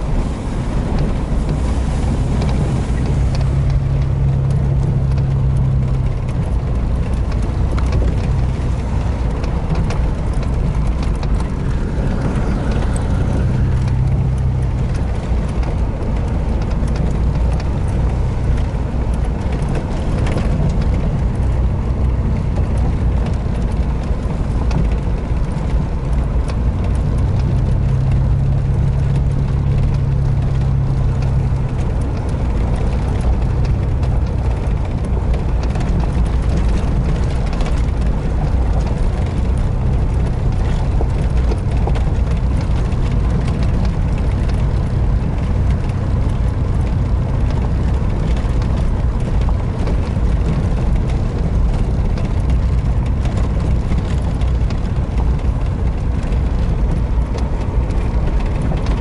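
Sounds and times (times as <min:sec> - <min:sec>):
tyres rolling over gravel: 0:00.0 - 0:59.0
vehicle engine running: 0:00.0 - 0:59.0.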